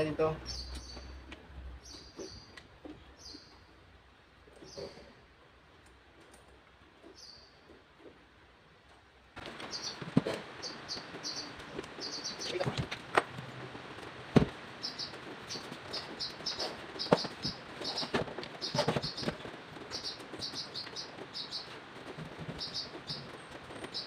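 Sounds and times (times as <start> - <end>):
birds chirping: 0.0 - 5.5, 7.0 - 8.2, 9.4 - 24.0.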